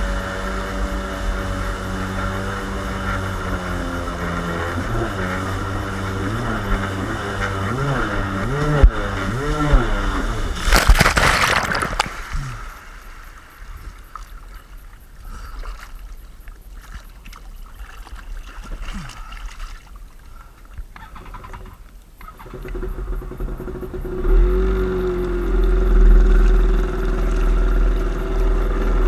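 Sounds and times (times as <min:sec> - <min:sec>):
boat engine revving: 0:00.0 - 0:16.2, 0:21.4 - 0:29.0
water trickling and lapping: 0:00.0 - 0:22.9, 0:24.6 - 0:29.0
water splashing: 0:00.2 - 0:21.8, 0:25.2 - 0:28.9.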